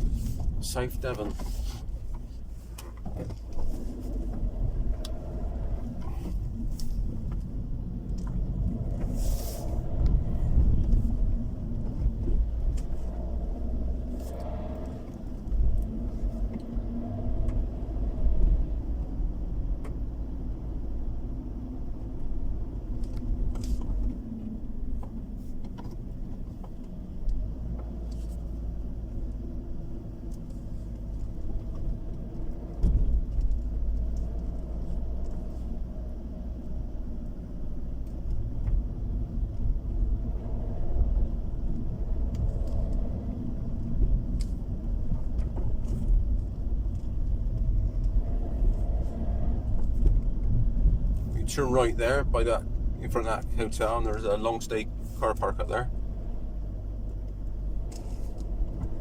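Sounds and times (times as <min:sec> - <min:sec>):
car running: 0:00.0 - 0:59.0
tyres rumbling on road: 0:00.0 - 0:59.0.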